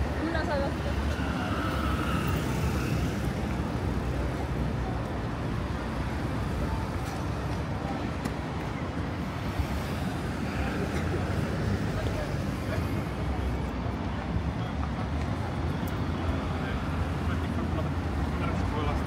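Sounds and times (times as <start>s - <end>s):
faint voices of passers-by: 0.0s - 19.0s
road traffic hum: 0.0s - 19.0s.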